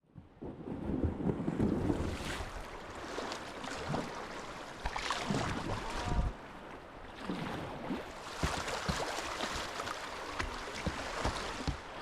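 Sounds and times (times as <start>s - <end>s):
paddle splashes: 0.3s - 12.0s
river water rushing: 2.1s - 12.0s.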